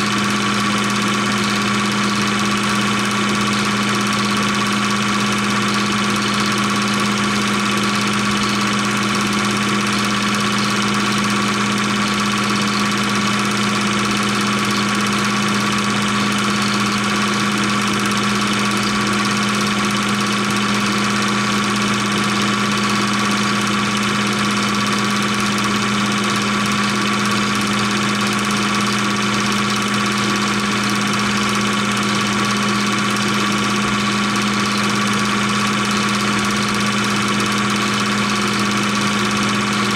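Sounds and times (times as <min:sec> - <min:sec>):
film projector hum and whine: 0:00.0 - 0:39.9.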